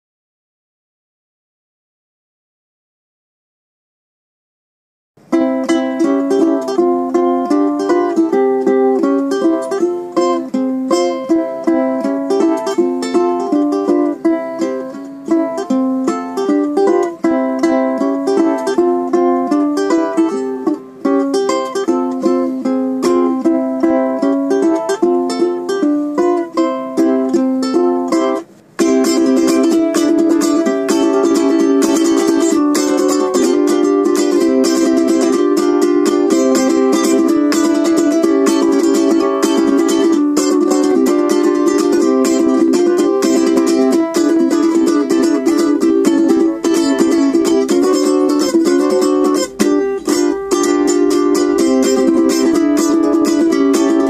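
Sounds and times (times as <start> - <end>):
ukulele melody: 5.2 - 54.0.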